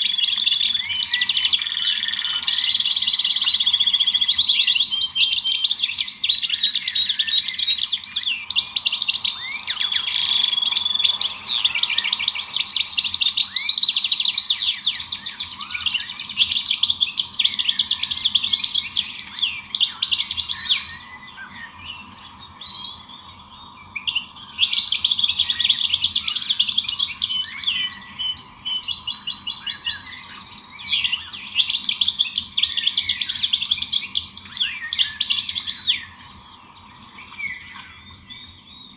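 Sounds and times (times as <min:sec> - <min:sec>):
songbirds chirping chorus: 0:00.0 - 0:38.9.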